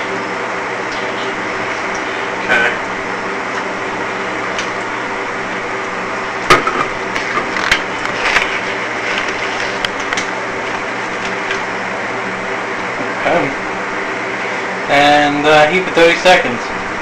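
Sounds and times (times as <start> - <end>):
fan hum: 0.0 - 17.0.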